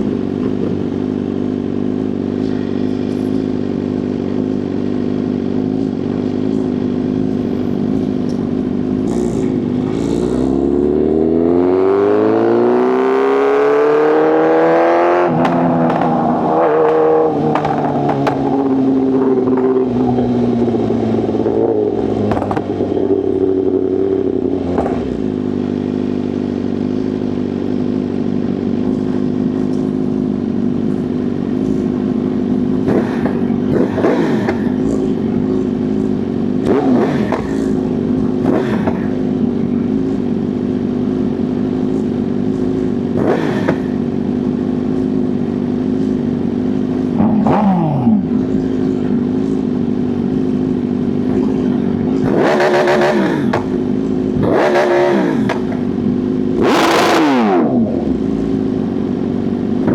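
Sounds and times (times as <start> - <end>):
motorcycle engine droning: 0.0 - 59.9.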